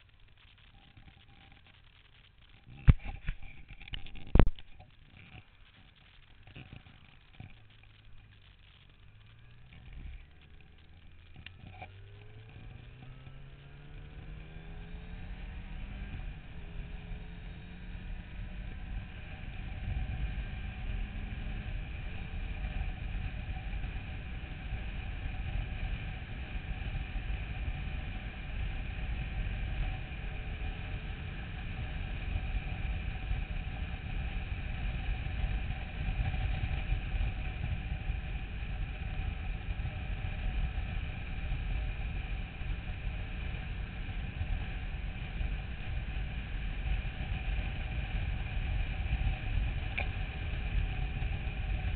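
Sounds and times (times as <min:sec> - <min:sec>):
motorcycle engine drone: 0:00.0 - 0:51.9
wind rumble on microphone: 0:02.6 - 0:05.4, 0:09.5 - 0:51.9.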